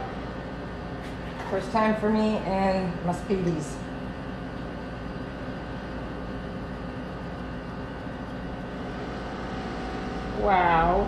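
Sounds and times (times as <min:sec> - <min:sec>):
faint hum: 0:00.0 - 0:11.0
machine whirring: 0:00.0 - 0:11.0.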